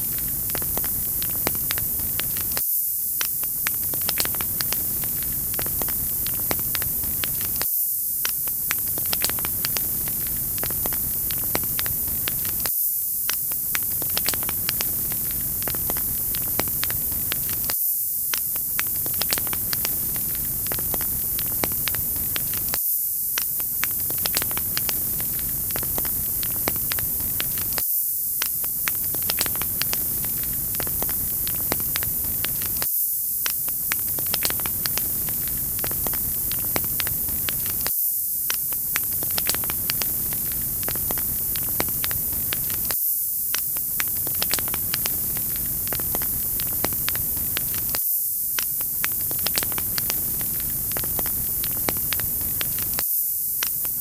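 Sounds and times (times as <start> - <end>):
wood fire crackling and popping: 0.0 - 27.8, 28.4 - 54.0.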